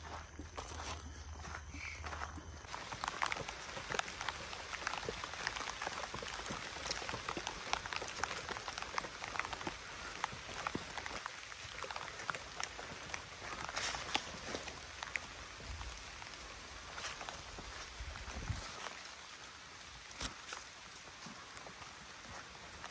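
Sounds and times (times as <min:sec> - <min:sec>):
footsteps through fallen leaves: 0:00.0 - 0:22.9.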